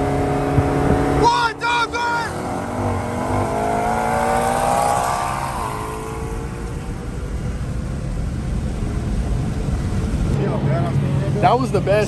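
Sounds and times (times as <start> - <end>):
car engine at full throttle: 0.0 - 12.0
road and wind noise: 0.0 - 12.0.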